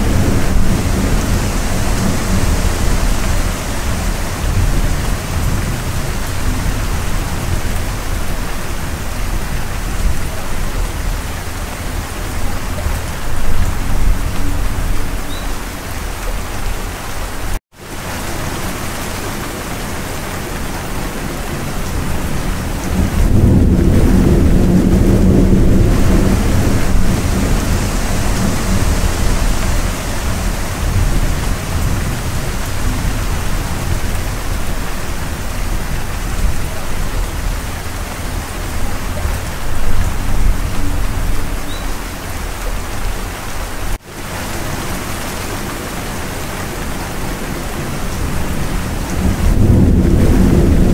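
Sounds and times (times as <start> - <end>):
low rumble of thunder: 0.0 - 15.6, 21.3 - 43.2, 46.2 - 50.9
heavy rain: 0.0 - 50.9.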